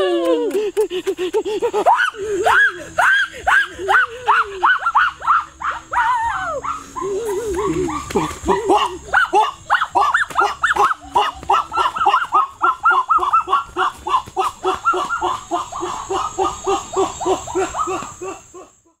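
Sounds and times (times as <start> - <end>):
dog yapping: 2.0 - 18.3.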